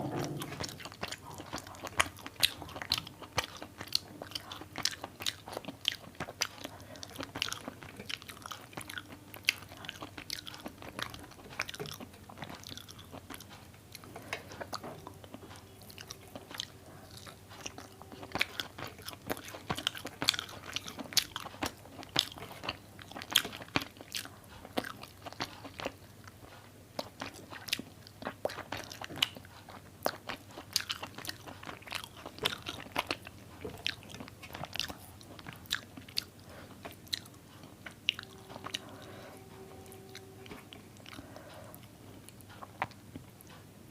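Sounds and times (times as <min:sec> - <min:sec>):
chewing with mouth smacks: 0:00.0 - 0:43.7.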